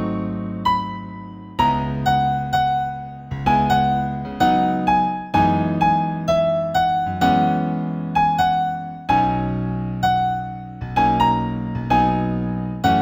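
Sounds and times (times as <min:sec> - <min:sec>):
slow piano keyboard piece: 0:00.0 - 0:13.0.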